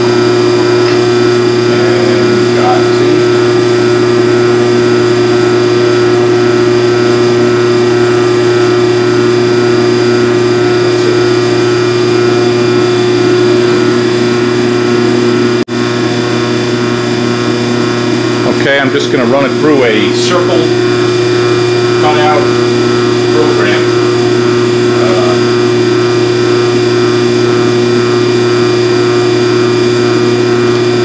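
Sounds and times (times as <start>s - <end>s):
rotary phase converter humming: 0.0s - 31.0s.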